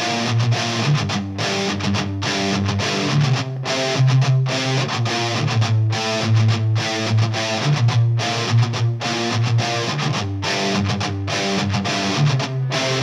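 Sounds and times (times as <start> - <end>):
song with electric guitar and beat: 0.0 - 13.0.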